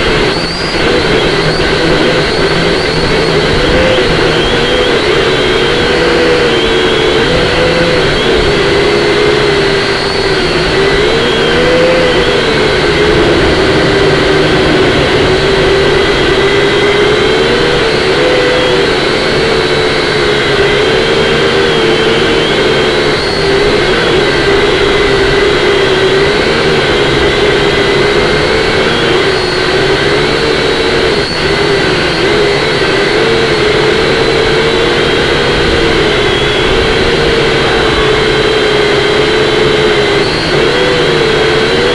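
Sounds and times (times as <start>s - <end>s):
drone propellers whining: 0.0s - 41.9s
wind noise: 0.0s - 41.9s.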